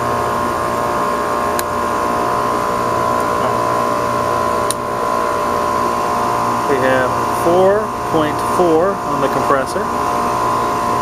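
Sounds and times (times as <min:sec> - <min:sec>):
heat pump humming and whining: 0:00.0 - 0:11.0.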